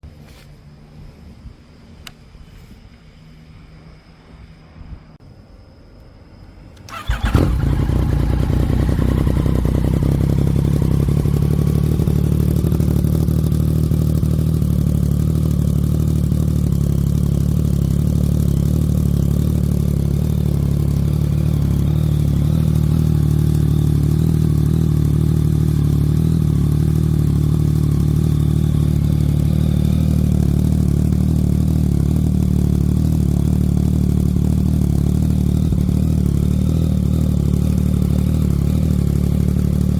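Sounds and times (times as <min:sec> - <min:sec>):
motorcycle engine starting and idling: 0:06.7 - 0:39.9.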